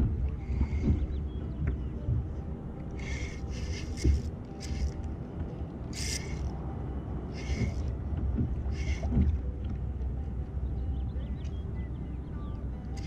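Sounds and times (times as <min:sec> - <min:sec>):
rumble of wind and water: 0:00.0 - 0:13.0.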